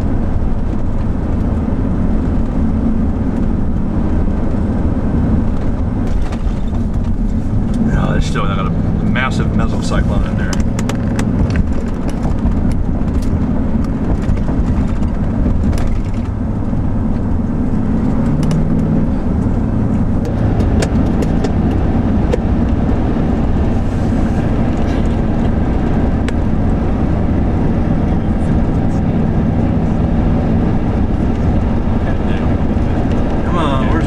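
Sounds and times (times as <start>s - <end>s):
car engine hum: 0.0s - 34.0s
road noise rumble: 0.0s - 34.0s.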